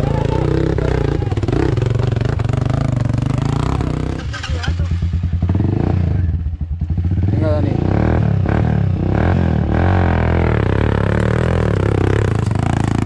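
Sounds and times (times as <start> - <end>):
dirt bike engine at low revs: 0.0 - 13.0
dirt bike engine revving: 0.0 - 13.0.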